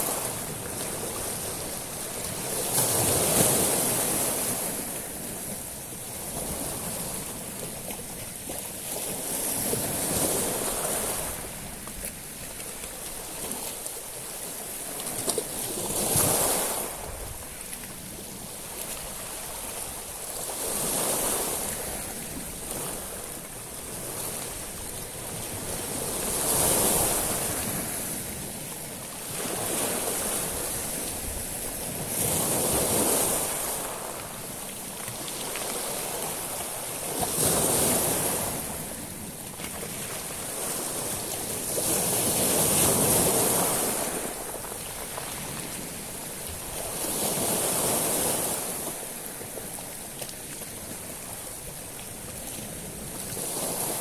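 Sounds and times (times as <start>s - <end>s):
waves washing on shingle beach: 0.0s - 54.0s.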